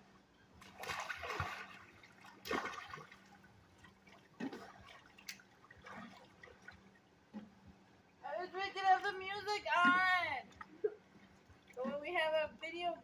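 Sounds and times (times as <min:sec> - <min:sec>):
faint steady hum: 0:00.0 - 0:13.0
pool water splashing: 0:00.6 - 0:12.9.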